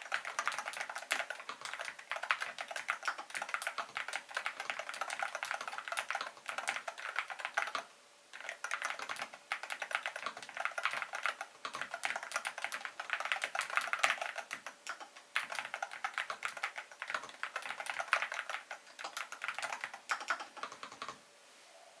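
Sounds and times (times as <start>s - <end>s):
fast typing on keyboard: 0.0s - 21.2s.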